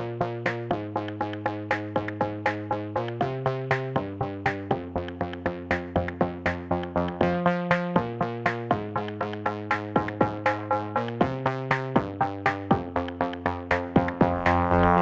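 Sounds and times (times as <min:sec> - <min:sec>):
electronic music with plucked synth: 0:00.0 - 0:15.0.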